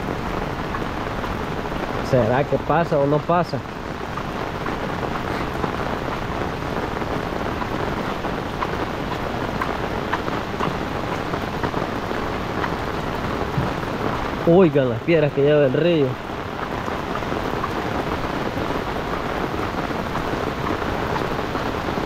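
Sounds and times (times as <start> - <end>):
heavy rain: 0.0 - 22.0
raindrops tapping umbrella: 0.0 - 22.0.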